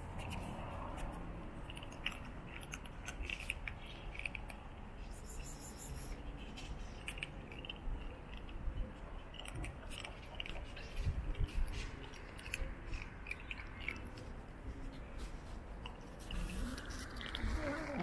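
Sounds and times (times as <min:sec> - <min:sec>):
kittens crunching dry kibble: 0:00.0 - 0:18.0.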